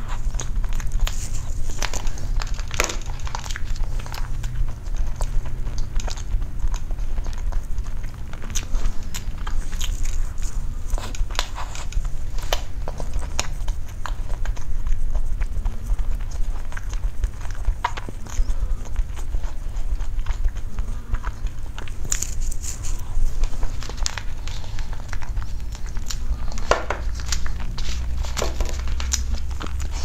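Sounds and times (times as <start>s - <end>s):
person chewing wetly: 0.0s - 30.0s
steady low hum: 0.0s - 30.0s.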